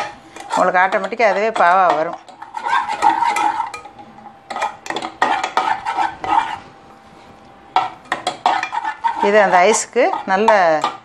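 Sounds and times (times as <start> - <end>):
spoon scraping metal pan: 0.0 - 6.7, 7.8 - 11.0.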